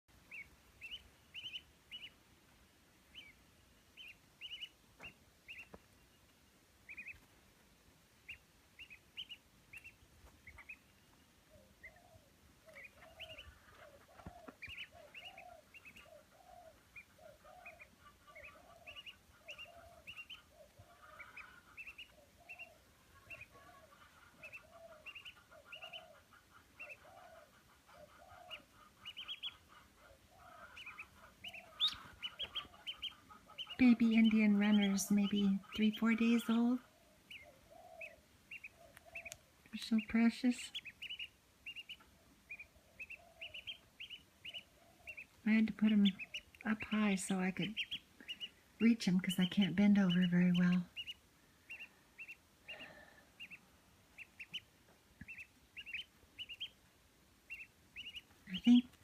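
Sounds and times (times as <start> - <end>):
ducklings peeping: 0.1 - 59.0.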